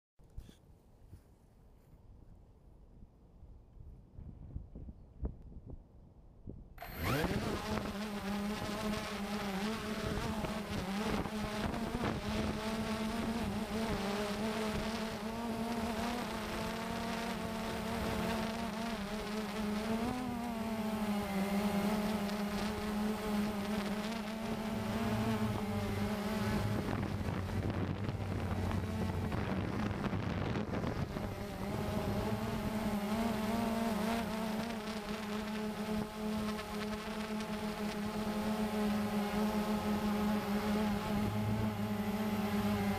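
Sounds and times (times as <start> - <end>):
lower hum: 6.5 - 42.9
quadcopter motors buzzing: 6.8 - 42.9.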